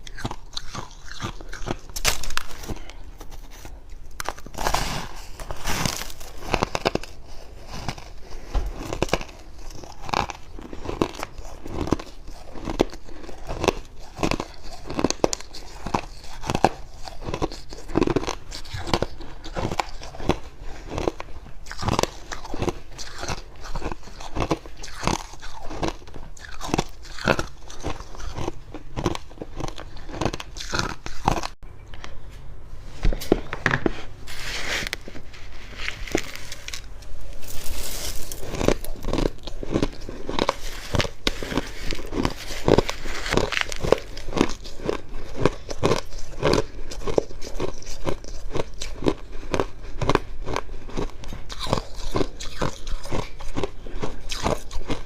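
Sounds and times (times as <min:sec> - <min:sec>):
chewing frost crunches: 0:00.0 - 0:31.6, 0:35.8 - 0:55.0.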